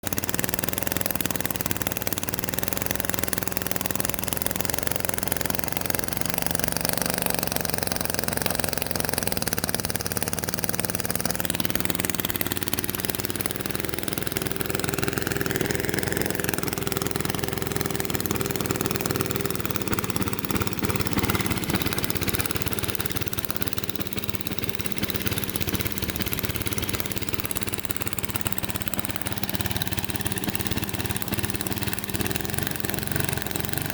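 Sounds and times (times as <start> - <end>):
lawn mower engine idling rough: 0.0 - 33.9.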